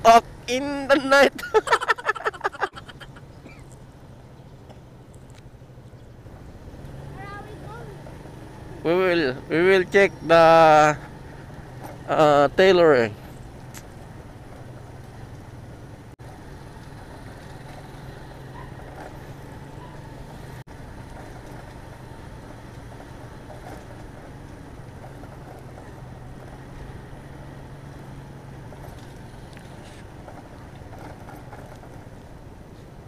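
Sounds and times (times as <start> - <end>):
motorcycle engine running: 3.5 - 32.9.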